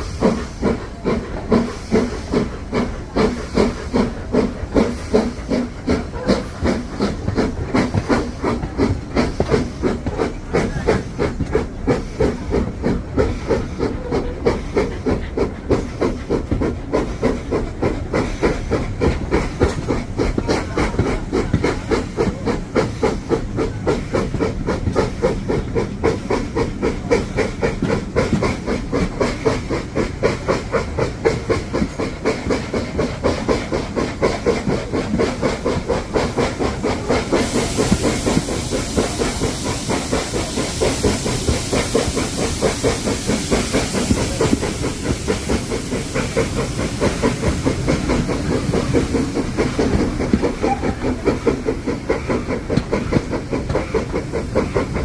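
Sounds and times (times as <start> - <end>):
loud steam hiss: 0.0 - 55.0
steam train rhythmic beat: 0.0 - 55.0.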